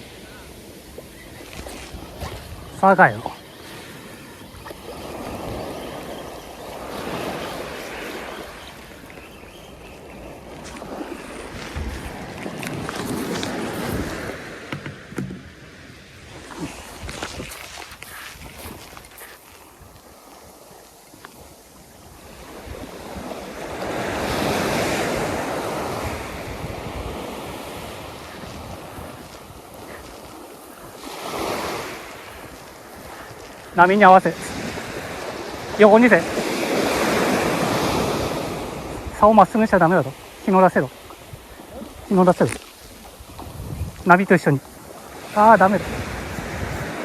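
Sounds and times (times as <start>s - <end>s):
wind on microphone: 0.0s - 39.2s, 41.0s - 47.0s
ocean wave breaking: 0.0s - 47.0s
surf washing onto beach: 0.0s - 47.0s.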